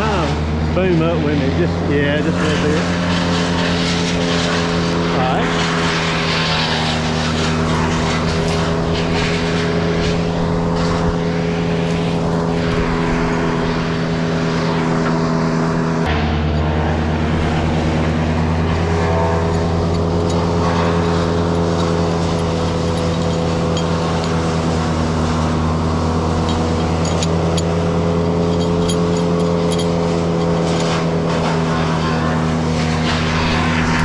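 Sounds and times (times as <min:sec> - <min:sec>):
crane engine running: 0:00.0 - 0:34.0.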